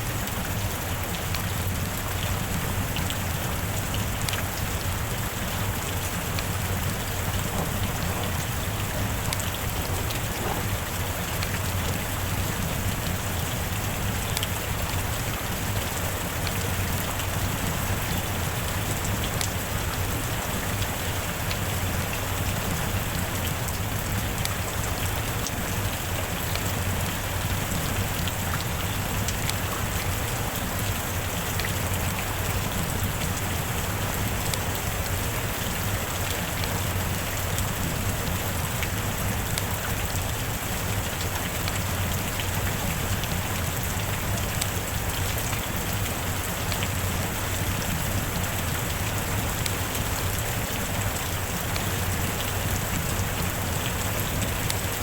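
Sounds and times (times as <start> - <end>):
heavy rain falling: 0.0 - 55.0
rain drop ticks: 0.1 - 55.0.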